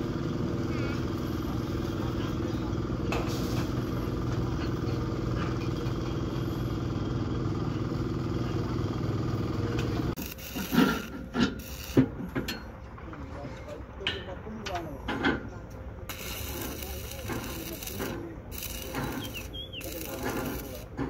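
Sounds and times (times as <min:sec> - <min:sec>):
small engine running: 0:00.0 - 0:12.1, 0:16.1 - 0:21.0.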